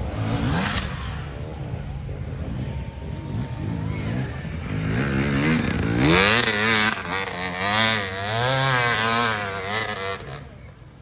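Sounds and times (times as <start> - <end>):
racing engine revving: 0.0 - 1.6, 2.4 - 10.5.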